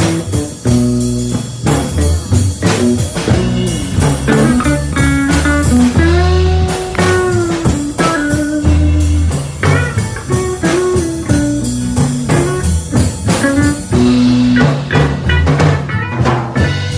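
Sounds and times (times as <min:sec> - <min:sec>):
bass: 0:00.0 - 0:16.9
drum kit steady beat: 0:00.0 - 0:16.9
electric guitar: 0:00.0 - 0:16.9.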